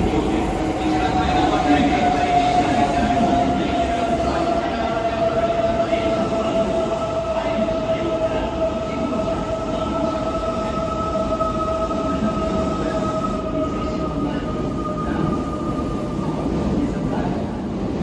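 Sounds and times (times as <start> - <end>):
train low rumble: 0.0 - 18.0
train two-tone whine: 0.0 - 18.0.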